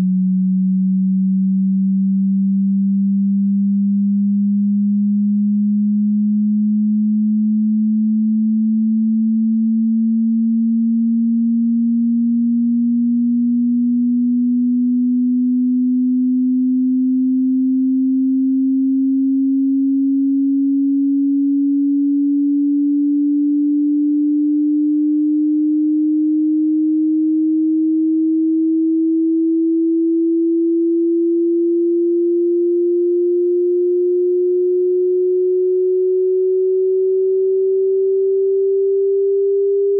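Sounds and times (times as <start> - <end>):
sine tone sweeping upward: 0.0 - 39.9.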